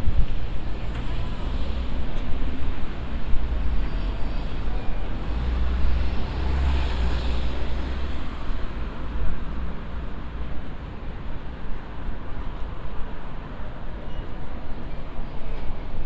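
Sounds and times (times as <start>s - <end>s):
road traffic rumble: 0.0s - 13.6s.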